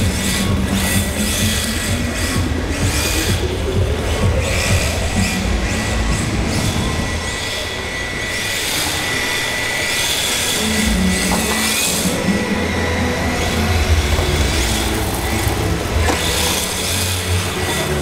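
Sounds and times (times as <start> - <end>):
steady background hum: 0.0 - 18.0
toy car motor whine: 0.0 - 18.0.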